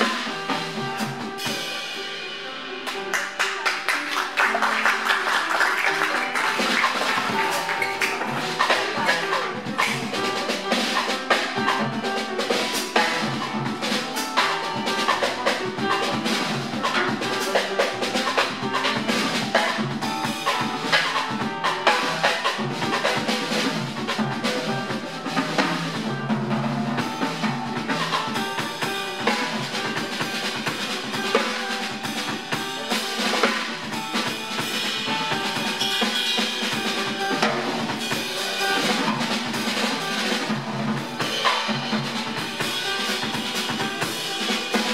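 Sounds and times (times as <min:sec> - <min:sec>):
drum kit snare and bass drum: 0:00.0 - 0:44.9
live jazz band: 0:00.0 - 0:44.9
piano: 0:00.0 - 0:44.9
upright double bass: 0:02.6 - 0:44.9.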